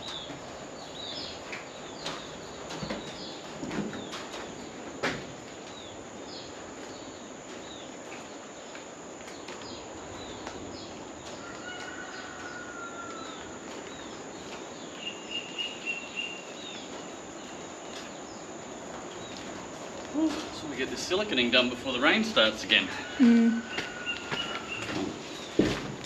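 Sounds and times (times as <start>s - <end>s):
birds chirping: 0.0s - 25.7s
background hiss: 0.0s - 26.0s.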